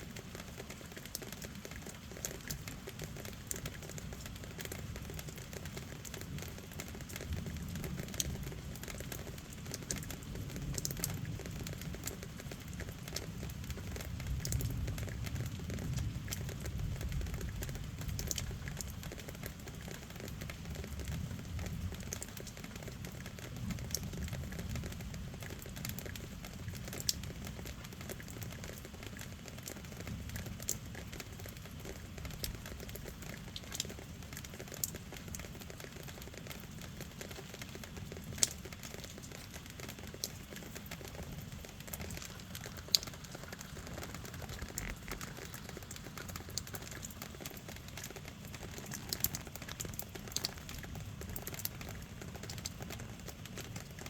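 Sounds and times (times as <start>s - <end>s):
steady rain: 0.0s - 54.0s
drips ticking: 0.2s - 54.0s.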